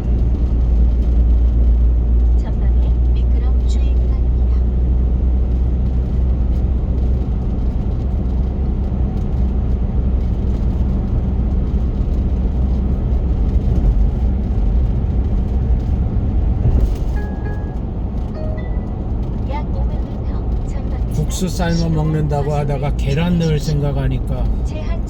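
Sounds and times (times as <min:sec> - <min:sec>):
car driving rumble: 0:00.0 - 0:25.0
tyre and engine noise: 0:00.0 - 0:25.0.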